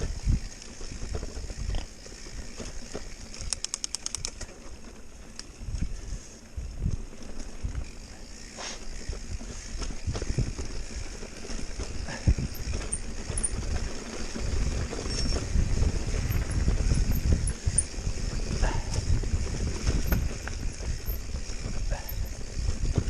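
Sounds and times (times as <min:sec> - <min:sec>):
mountain bike rattling over rough ground: 0:00.0 - 0:23.0.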